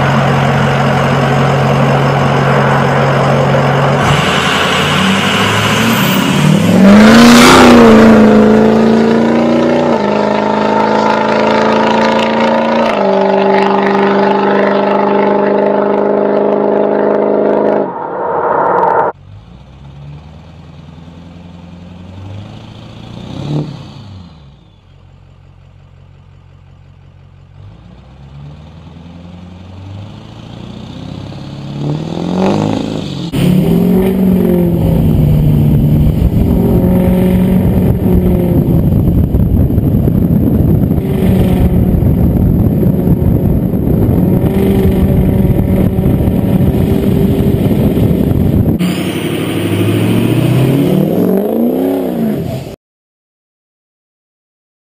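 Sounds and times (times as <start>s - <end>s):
truck passing by: 0.0s - 24.8s, 27.6s - 52.8s
truck engine accelerating: 0.0s - 52.8s.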